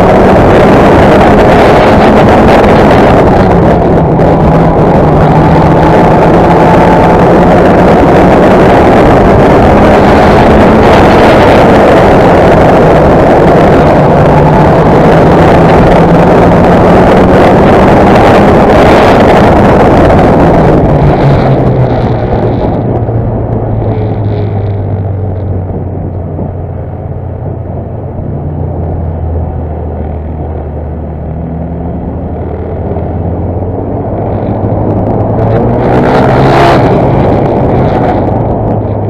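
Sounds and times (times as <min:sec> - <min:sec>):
race car engine at high revs: 0:00.0 - 0:39.0.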